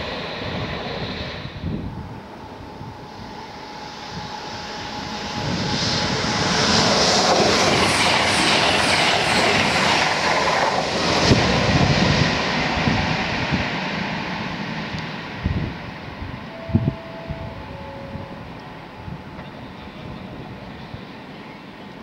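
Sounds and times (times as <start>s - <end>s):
diesel trains passing at speed: 0.0s - 22.0s.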